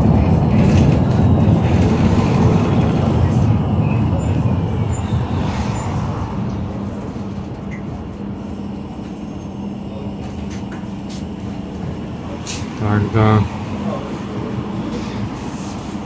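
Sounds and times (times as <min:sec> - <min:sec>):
bus engine and road drone: 0:00.0 - 0:16.0.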